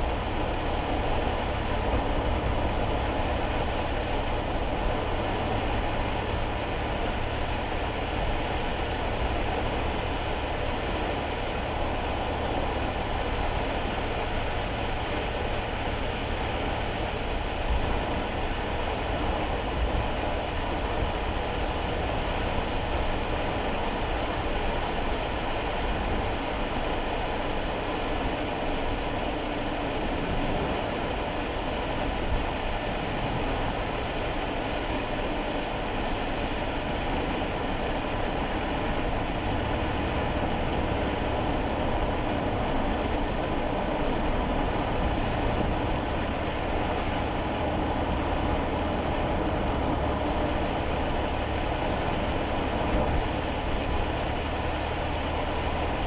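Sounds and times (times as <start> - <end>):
low engine and road rumble: 0.0 - 56.0
tyres hissing on wet road: 0.0 - 56.0.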